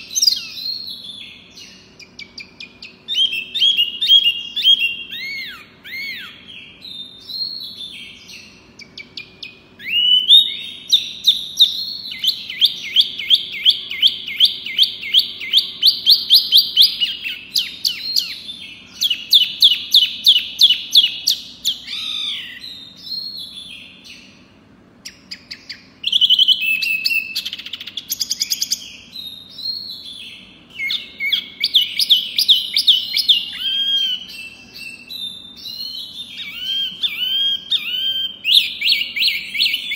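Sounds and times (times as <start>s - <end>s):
faint steady hum: 0.0s - 39.9s
songbird chirping rapidly: 0.0s - 39.9s.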